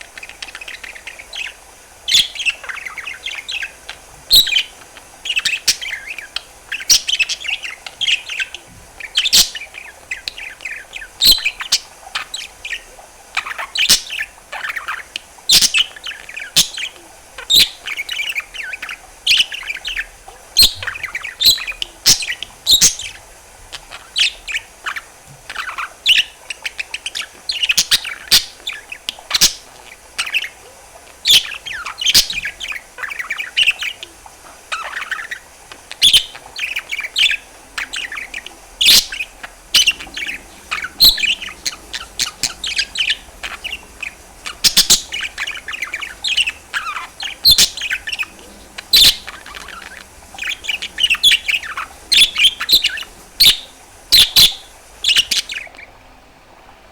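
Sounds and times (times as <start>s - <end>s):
budgerigar chattering: 0.0s - 55.8s.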